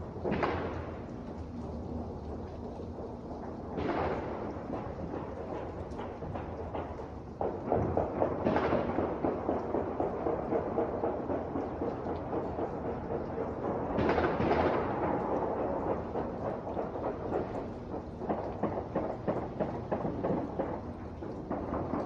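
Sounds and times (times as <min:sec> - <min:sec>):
distant gunfire and fireworks crackle: 0:00.0 - 0:22.0.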